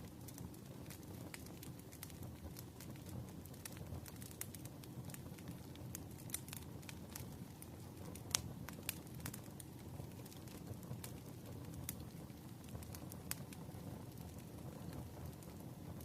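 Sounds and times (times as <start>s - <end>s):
fire crackling and popping: 0.0s - 16.0s
low steady hiss: 0.0s - 16.0s.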